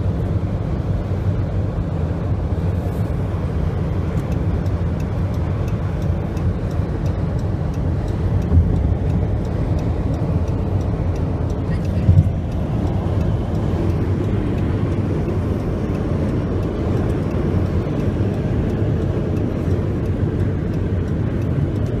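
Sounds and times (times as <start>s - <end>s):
car interior noise: 0.0s - 22.0s.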